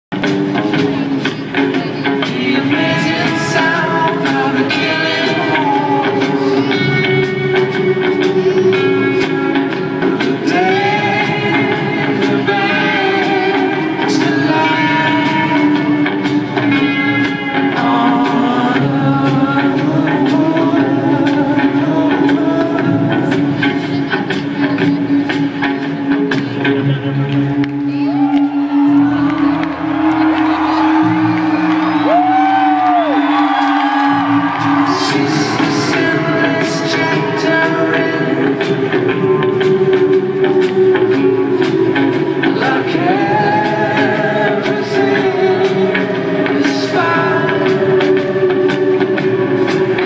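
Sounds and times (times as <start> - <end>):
live rock band playing: 0.1 - 50.0
person singing long notes: 1.0 - 25.2, 27.9 - 50.0.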